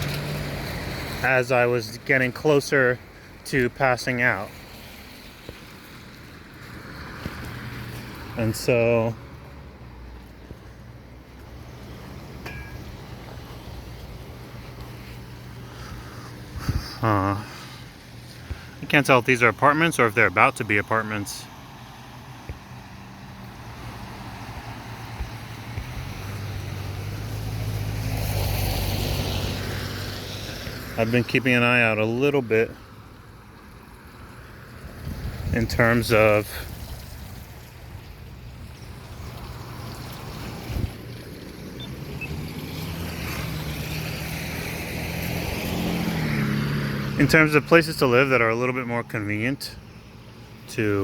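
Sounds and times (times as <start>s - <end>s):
car engine hum: 6.2s - 34.1s, 35.5s - 51.0s.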